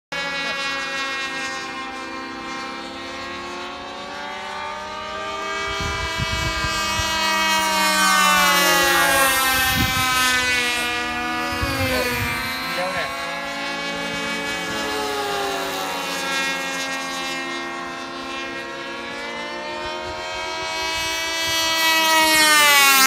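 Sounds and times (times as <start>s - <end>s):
model airplane engines buzzing: 0.1s - 23.0s.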